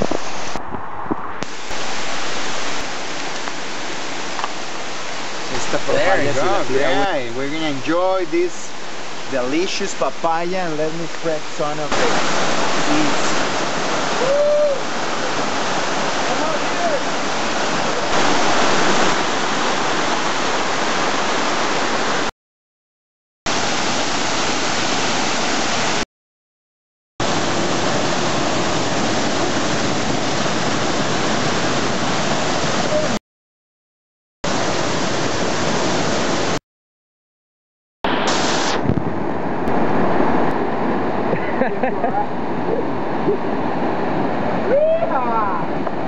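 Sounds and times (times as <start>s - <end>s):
waterfall rushing over rocks: 0.0s - 0.6s, 1.4s - 22.3s, 23.5s - 26.0s, 27.2s - 33.2s, 34.5s - 36.6s, 38.1s - 46.0s.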